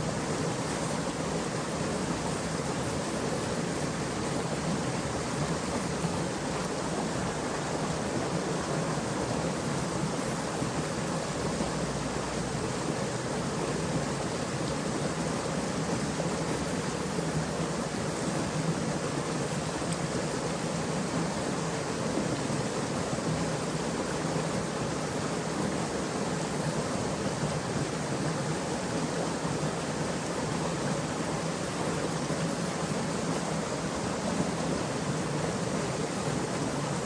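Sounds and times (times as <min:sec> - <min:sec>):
stream flowing: 0:00.0 - 0:37.0.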